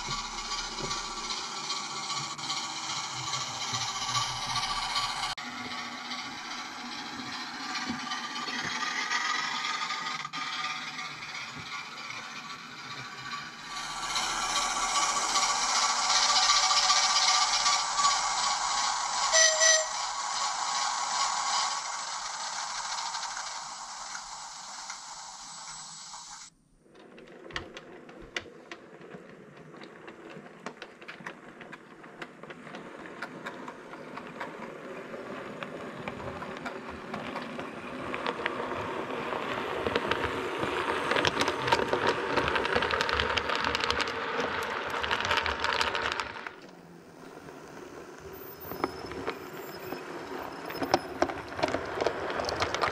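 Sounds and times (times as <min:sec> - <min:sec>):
model train motor whirr: 0:00.0 - 0:26.5, 0:32.2 - 0:52.9
wheels clicking on track: 0:00.0 - 0:52.9.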